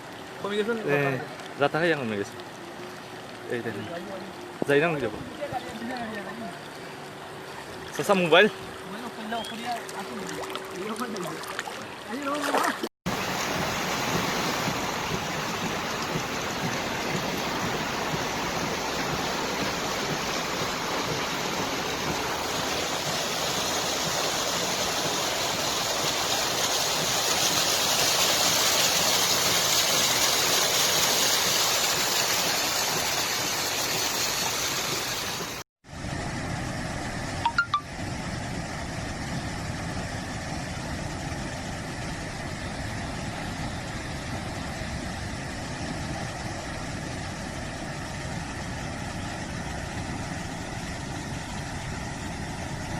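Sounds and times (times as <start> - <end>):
floodwater rushing: 0.0 - 52.9.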